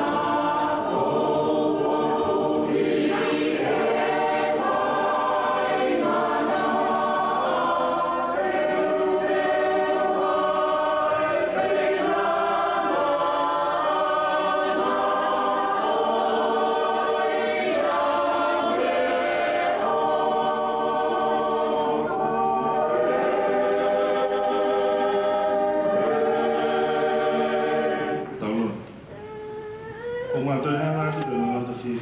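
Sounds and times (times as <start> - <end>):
choir singing in harmony: 0.0 - 28.9.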